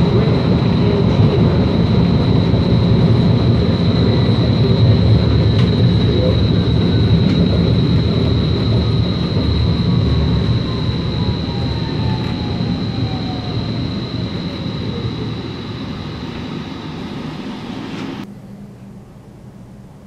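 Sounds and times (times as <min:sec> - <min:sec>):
steady high whine: 0:00.0 - 0:20.0
streetcar rumbling on rails: 0:00.0 - 0:20.0.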